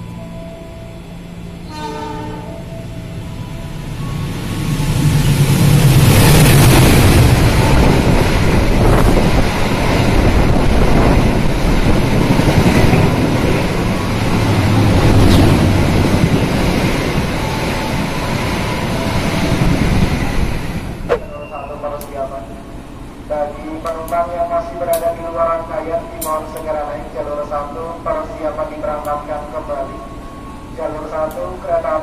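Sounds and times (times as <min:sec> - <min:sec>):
train rushing past: 0:01.2 - 0:27.5.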